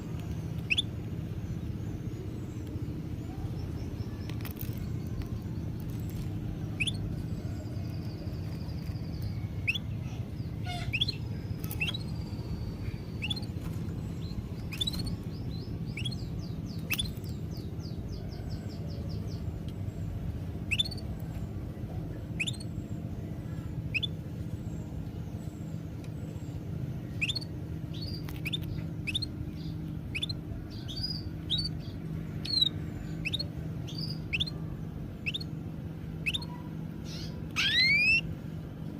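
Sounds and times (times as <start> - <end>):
bird trill: 0.0 - 19.4, 20.6 - 21.2, 22.3 - 23.0, 23.8 - 24.2, 26.3 - 35.6, 36.2 - 38.3
small birds chirping: 0.0 - 38.9
steady low hum: 0.0 - 38.9.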